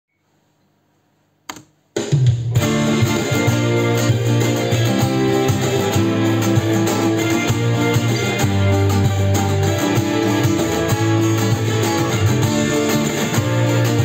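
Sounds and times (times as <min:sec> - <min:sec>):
acoustic guitar chords: 0:02.5 - 0:14.0.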